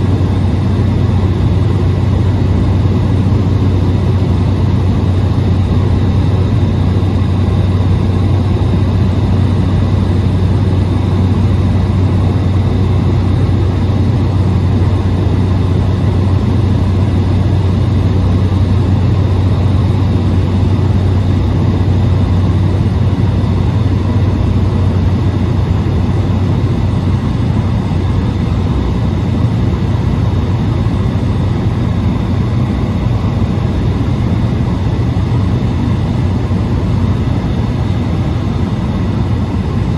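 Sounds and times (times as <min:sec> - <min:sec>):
turboprop engine drone in cabin: 0:00.0 - 0:39.9.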